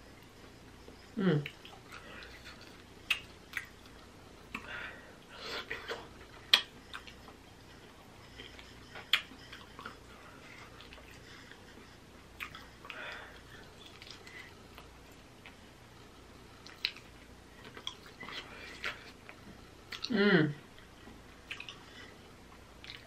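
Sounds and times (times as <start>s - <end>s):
chewing and wet mouth sounds: 0.2s - 4.7s, 5.5s - 16.0s, 16.6s - 23.0s.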